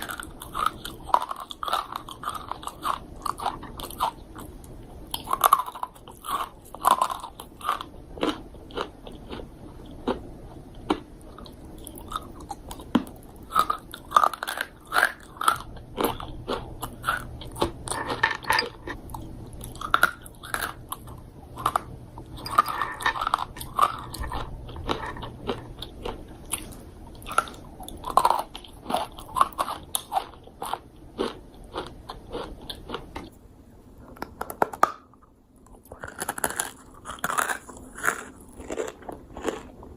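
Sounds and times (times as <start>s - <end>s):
chewing crunchy dried fruit: 0.0s - 33.3s, 34.2s - 39.9s.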